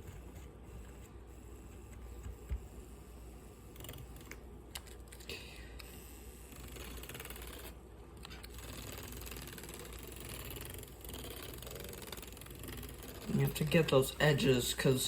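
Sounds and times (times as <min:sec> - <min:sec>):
milk frother whirring: 0:00.0 - 0:15.0.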